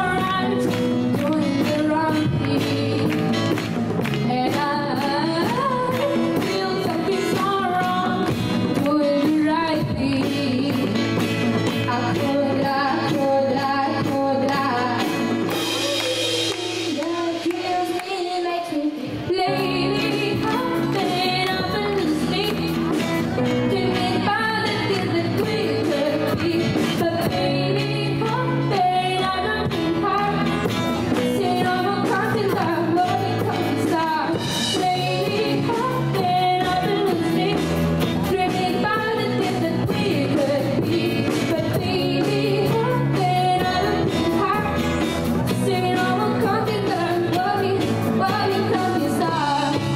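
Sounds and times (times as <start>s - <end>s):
female lead vocal: 0.0s - 49.9s
pop-rock band playing: 0.0s - 49.9s.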